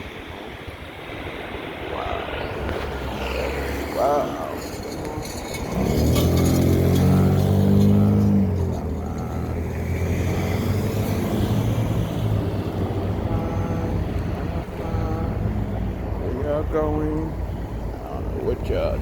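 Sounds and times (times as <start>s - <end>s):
street traffic noise: 0.0s - 19.0s
vehicle passing close by: 2.0s - 19.0s.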